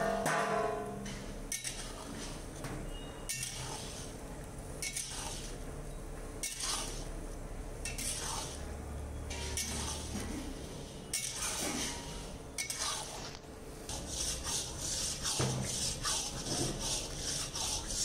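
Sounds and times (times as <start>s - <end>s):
metal spatula scraping a pan: 0.0s - 2.5s, 3.2s - 4.2s, 4.8s - 5.6s, 6.4s - 7.1s, 7.8s - 8.6s, 9.3s - 18.0s.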